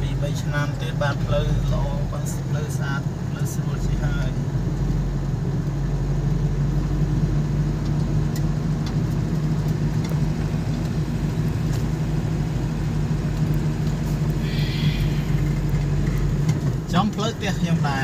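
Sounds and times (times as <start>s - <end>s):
road and tyre noise: 0.0s - 18.0s
vehicle engine hum: 0.0s - 18.0s.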